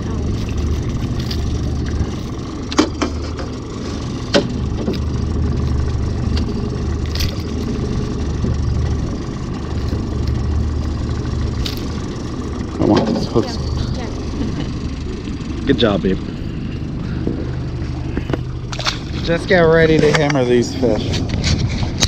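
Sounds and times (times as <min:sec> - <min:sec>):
outboard engine humming: 0:00.0 - 0:22.0.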